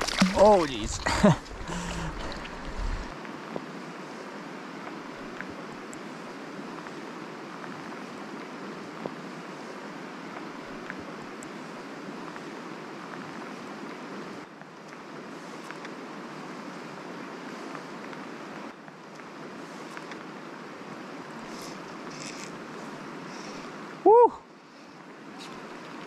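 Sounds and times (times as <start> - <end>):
river water flowing: 0.0 - 26.0.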